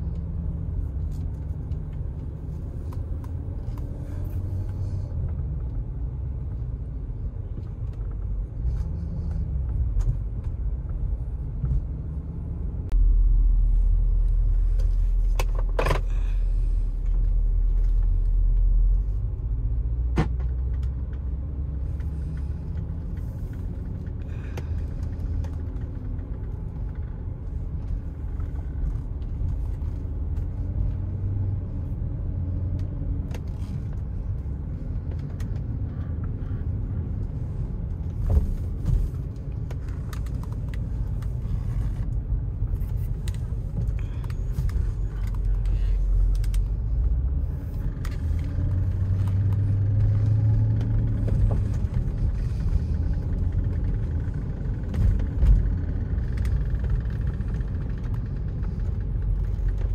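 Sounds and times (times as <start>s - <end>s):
car engine rumble from cabin: 0.0s - 59.9s.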